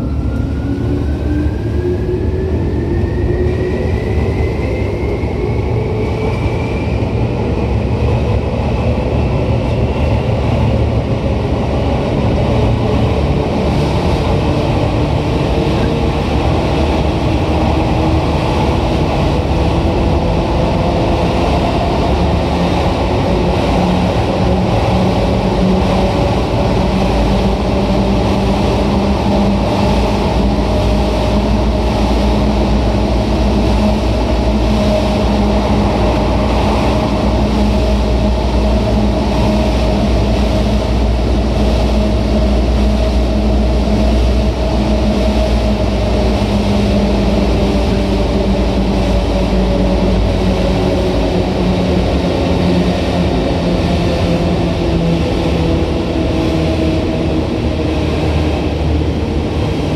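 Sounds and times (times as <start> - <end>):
train motor hum: 0.0 - 59.9
train wheels rumbling: 0.0 - 59.9.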